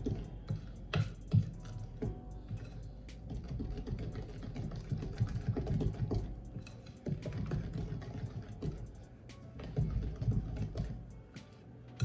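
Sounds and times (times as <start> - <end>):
wooden spoon stirring batter: 0.0 - 12.0.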